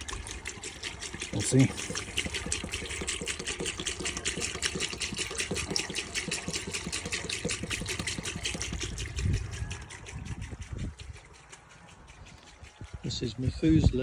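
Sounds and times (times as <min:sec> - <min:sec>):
fuel gurgling into tank: 0:00.0 - 0:14.0.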